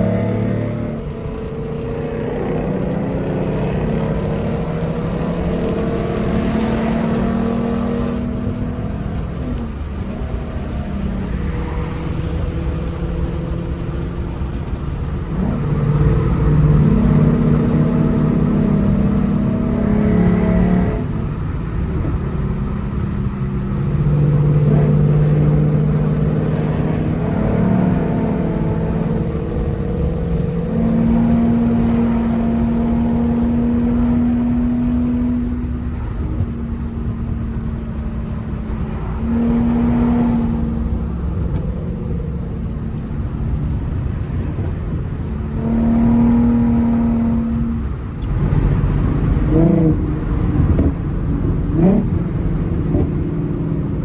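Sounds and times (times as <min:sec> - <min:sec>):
car engine revving under load: 0:00.0 - 0:54.0.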